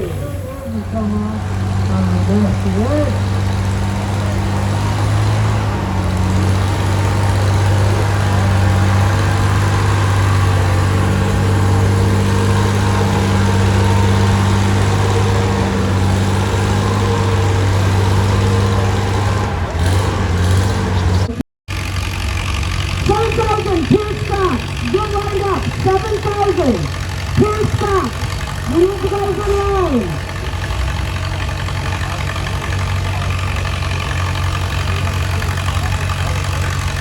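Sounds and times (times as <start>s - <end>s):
tractor engine running hard: 0.0s - 37.0s.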